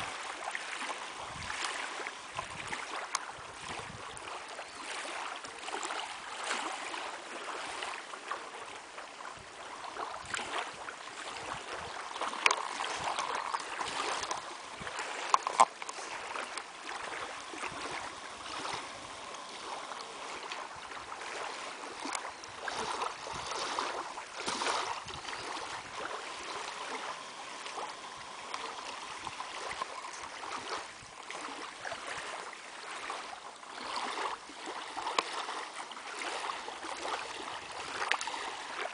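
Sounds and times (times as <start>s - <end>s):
lake water lapping: 0.0s - 38.9s.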